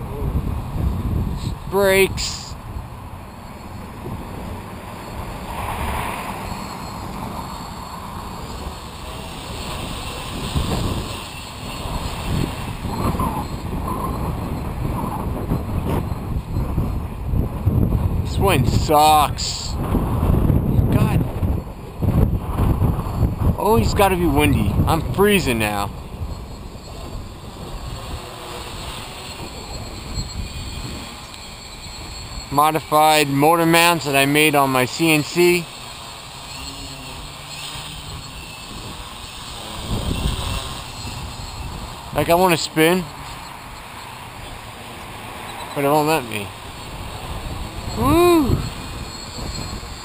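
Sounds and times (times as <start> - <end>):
wind buffeting microphone: 0.0 - 33.2, 35.9 - 50.0
drone motors whining: 0.0 - 50.0.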